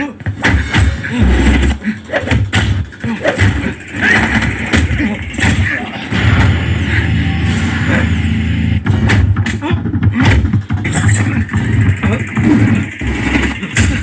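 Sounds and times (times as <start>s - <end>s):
heavy low bass: 2.6s - 14.0s.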